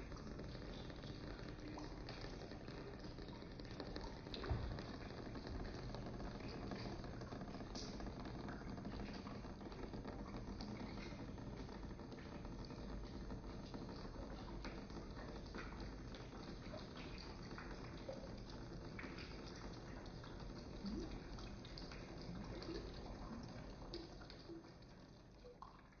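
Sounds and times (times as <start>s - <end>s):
water dripping and trickling: 0.0s - 26.0s.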